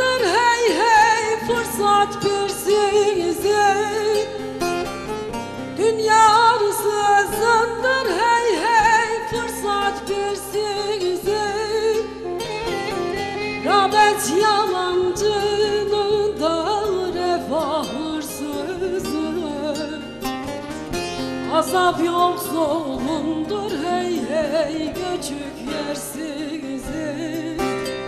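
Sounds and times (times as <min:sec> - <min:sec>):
woman singing ornamented notes: 0:00.0 - 0:04.4, 0:05.8 - 0:20.1, 0:21.5 - 0:28.0
plucked lute accompaniment: 0:00.0 - 0:28.0.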